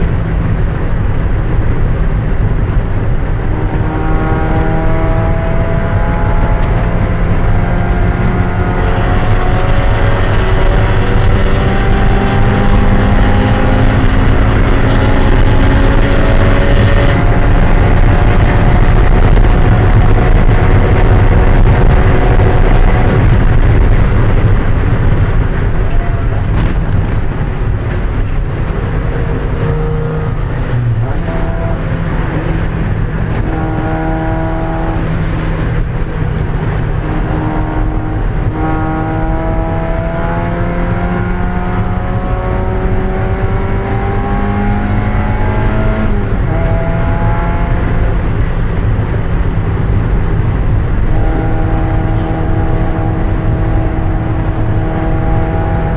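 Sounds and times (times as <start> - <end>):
car engine revving: 0.0 - 55.9
constant loud low noise: 0.0 - 55.9.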